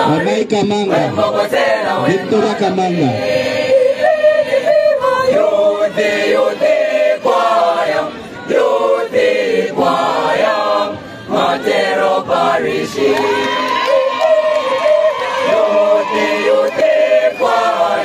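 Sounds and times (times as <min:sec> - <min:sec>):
youth choir singing unaccompanied: 0:00.0 - 0:18.0.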